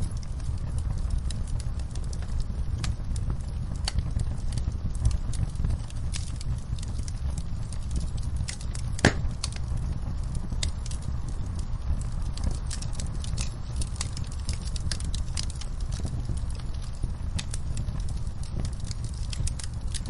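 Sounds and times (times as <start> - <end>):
fire crackling and popping: 0.0 - 20.0
fire rumbling: 0.0 - 20.0.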